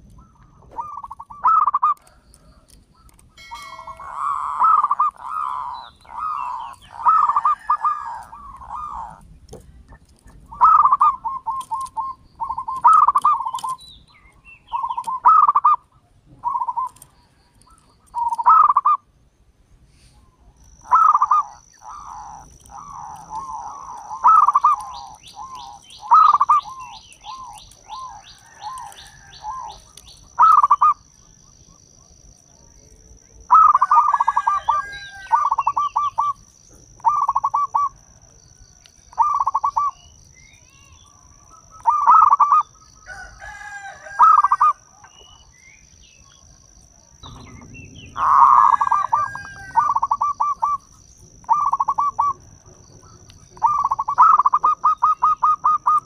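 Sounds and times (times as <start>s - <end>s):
dove cooing: 0.0s - 19.1s, 20.8s - 31.1s, 33.4s - 38.3s, 39.1s - 40.1s, 40.7s - 45.4s, 47.2s - 56.0s.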